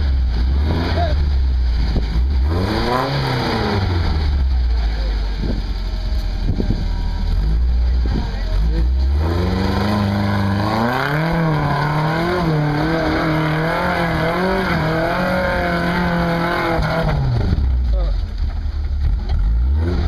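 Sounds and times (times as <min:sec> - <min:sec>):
truck engine working under load: 0:00.0 - 0:20.0.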